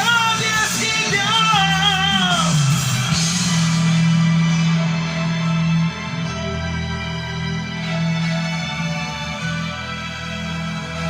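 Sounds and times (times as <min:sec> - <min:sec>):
slow ballad instrumental chords: 0:00.0 - 0:11.0.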